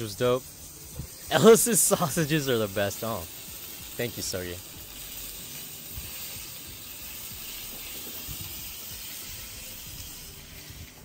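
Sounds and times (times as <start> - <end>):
sausages sizzling in metal tray: 0.0 - 11.0.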